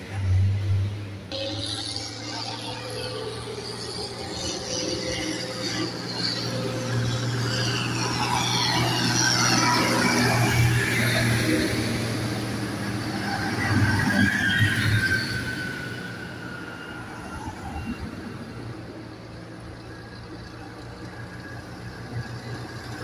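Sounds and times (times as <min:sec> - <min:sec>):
tractor diesel engines: 0:00.0 - 0:23.0
high whine: 0:00.1 - 0:20.0.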